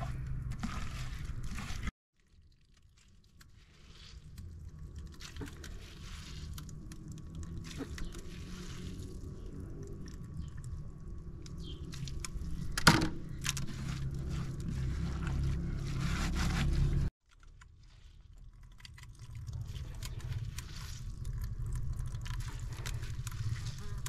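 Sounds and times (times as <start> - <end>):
juice trickling and dripping: 0.0 - 15.9, 17.2 - 24.0
fruit squelching by hand: 0.0 - 24.0.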